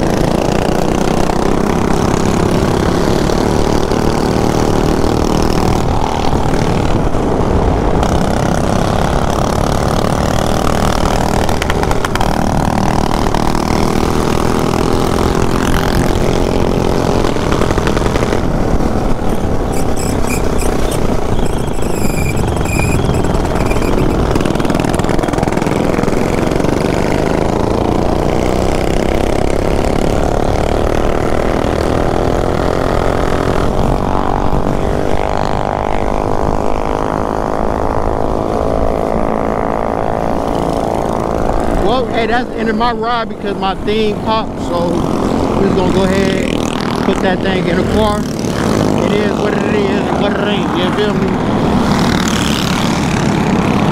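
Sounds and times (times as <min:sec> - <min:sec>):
small motorbike engine running: 0:00.0 - 0:53.9
wind rush on helmet camera: 0:00.0 - 0:53.9.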